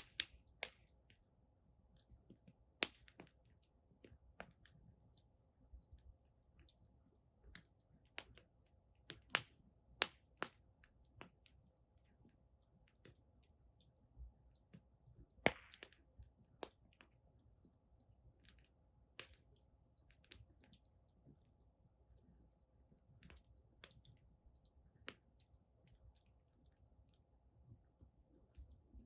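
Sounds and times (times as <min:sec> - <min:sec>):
firewood crackling and popping: 0:00.0 - 0:21.4, 0:22.2 - 0:27.1.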